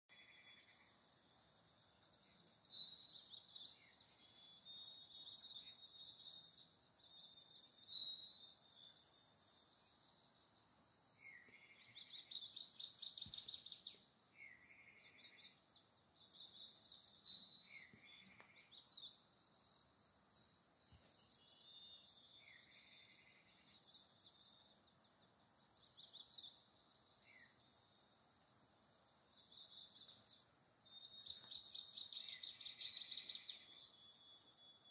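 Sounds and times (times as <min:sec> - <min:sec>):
small birds chirping and twittering: 0:00.0 - 0:34.9
low background noise: 0:00.1 - 0:34.9.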